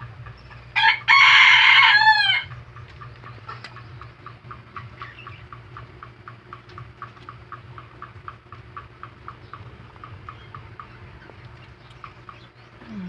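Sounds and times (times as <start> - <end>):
rabbits crunching vegetables: 2.2 - 13.0.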